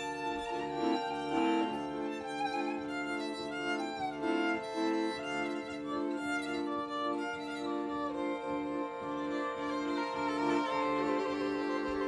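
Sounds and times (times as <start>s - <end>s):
accordion: 0.0s - 12.0s
violins: 0.0s - 12.0s.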